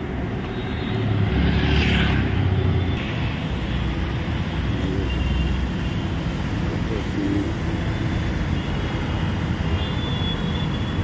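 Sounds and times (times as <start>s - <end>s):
low rumble of passing vehicles: 0.0s - 11.0s.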